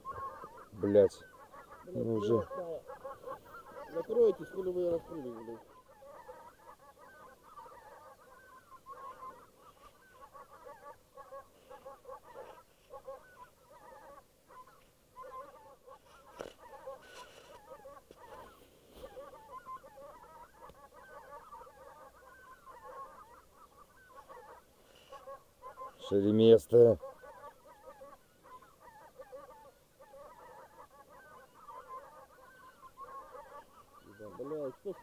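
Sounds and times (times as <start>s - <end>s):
geese honking in flight: 0.0s - 35.0s.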